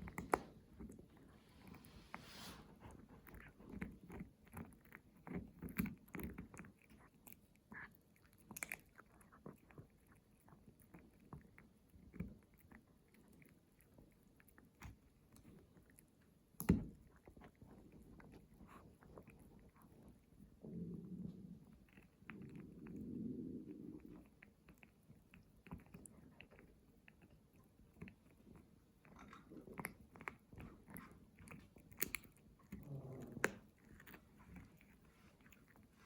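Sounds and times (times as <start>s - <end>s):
pet chewing bone: 0.0s - 1.9s, 2.7s - 36.0s.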